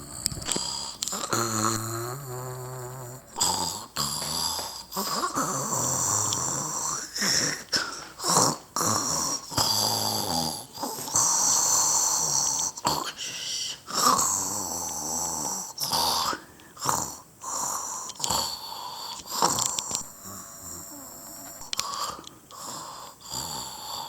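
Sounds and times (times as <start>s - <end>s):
recorded snoring from toys: 0.0s - 24.0s.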